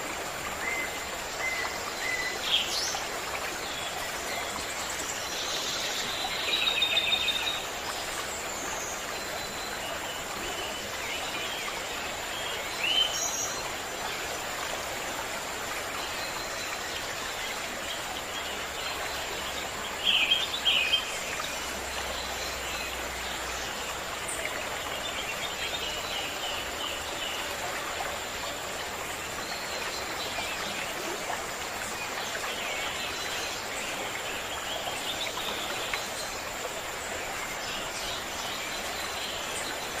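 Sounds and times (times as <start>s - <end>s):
stream rushing: 0.0s - 40.0s
small birds singing and calling: 0.4s - 40.0s.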